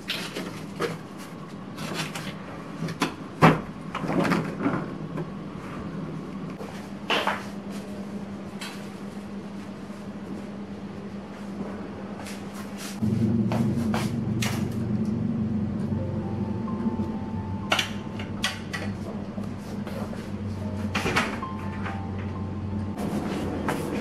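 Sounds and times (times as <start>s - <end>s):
steady low hum: 4.6s - 24.0s.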